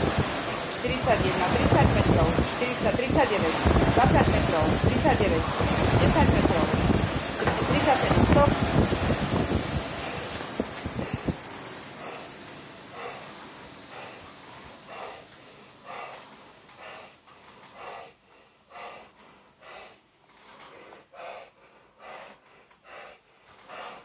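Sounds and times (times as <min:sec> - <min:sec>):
flywheel hiss: 0:00.0 - 0:21.4
heavy rhythmic breathing: 0:00.0 - 0:24.0.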